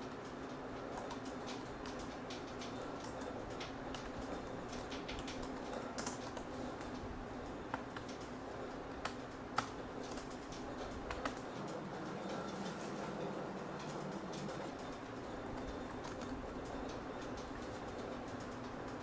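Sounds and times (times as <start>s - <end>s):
typing on laptop keyboard: 0.0s - 19.0s.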